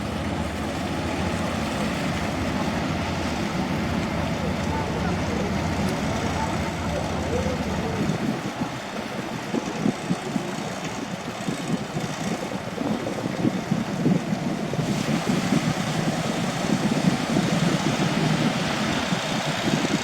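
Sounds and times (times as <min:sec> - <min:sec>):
boat engine running: 0:00.0 - 0:20.0
water noise: 0:00.0 - 0:20.0
wind: 0:00.0 - 0:20.0.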